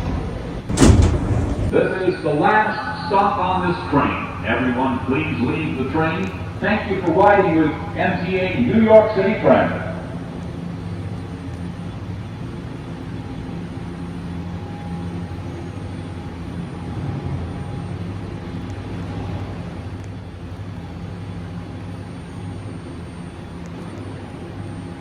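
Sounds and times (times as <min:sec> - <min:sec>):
subway train humming: 0:00.0 - 0:25.0
faint high whine: 0:00.8 - 0:25.0.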